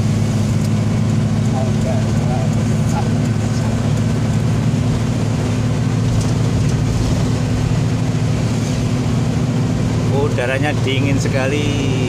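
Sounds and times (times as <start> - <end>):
diesel truck engine drone: 0.0 - 12.0
road noise: 0.0 - 12.0.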